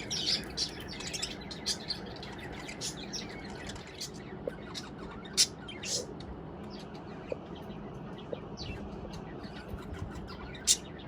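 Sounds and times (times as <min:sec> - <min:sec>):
budgerigars chirping: 0:00.0 - 0:06.2, 0:06.8 - 0:11.0
steady background hum: 0:00.0 - 0:11.0.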